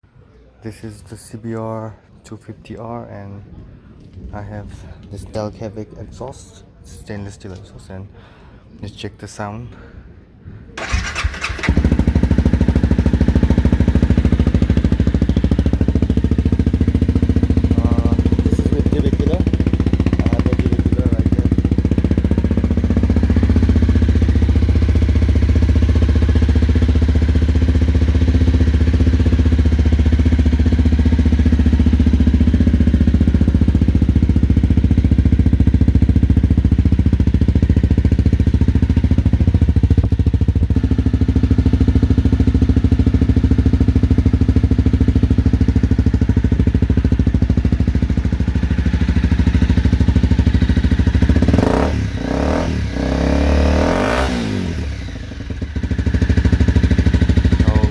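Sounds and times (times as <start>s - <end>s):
motorcycle engine idling: 10.8s - 57.9s.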